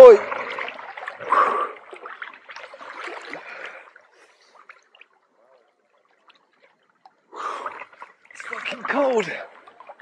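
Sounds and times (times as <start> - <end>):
water dripping: 0.0 - 10.0
water splashing and sloshing: 0.0 - 10.0.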